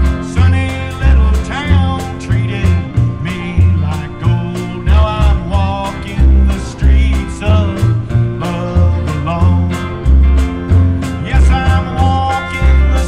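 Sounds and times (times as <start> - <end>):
person singing: 0.0 - 10.1, 11.0 - 13.0
rockabilly band playing: 0.0 - 13.0.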